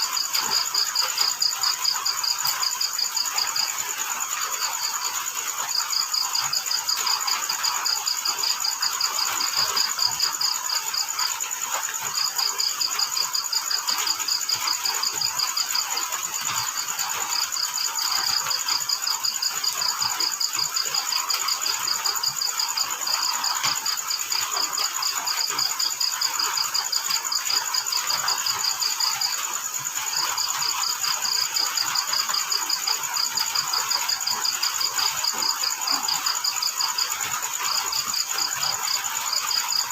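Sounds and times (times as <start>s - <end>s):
cricket chirping pulses: 0.0s - 39.9s
high insect trill: 0.0s - 39.9s.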